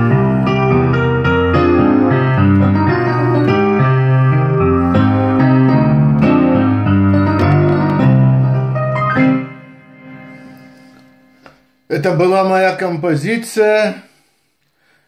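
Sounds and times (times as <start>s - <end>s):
piano-like keyboard music: 0.0s - 12.3s.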